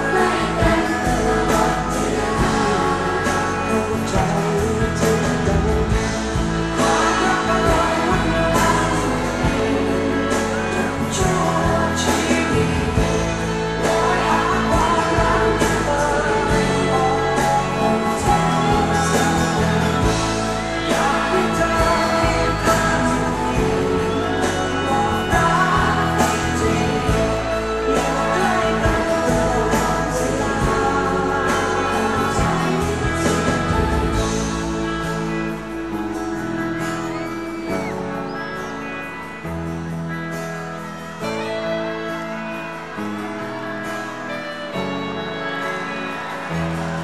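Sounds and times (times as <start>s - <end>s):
live pop song with band: 0.0s - 47.0s.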